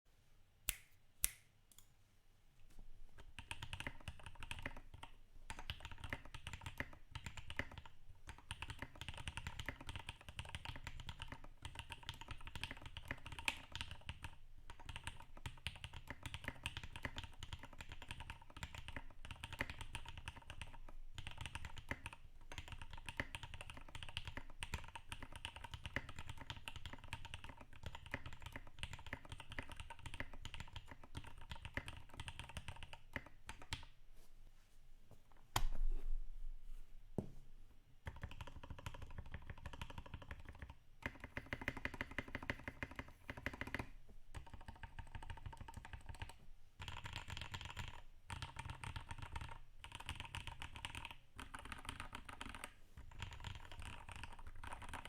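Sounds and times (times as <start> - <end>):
mechanical keyboard typing: 3.3 - 33.8, 38.1 - 55.0.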